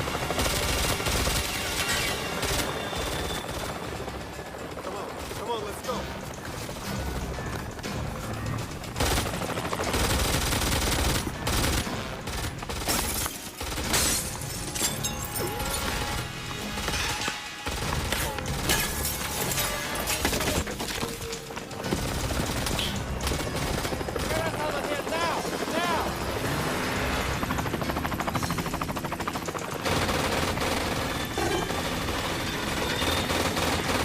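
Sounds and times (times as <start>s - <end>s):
film score music: 0.0s - 34.0s.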